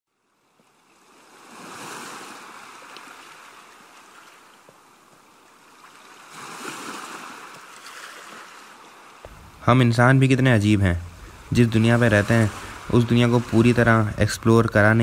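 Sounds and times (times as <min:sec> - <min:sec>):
ocean waves washing in: 0:00.8 - 0:15.0.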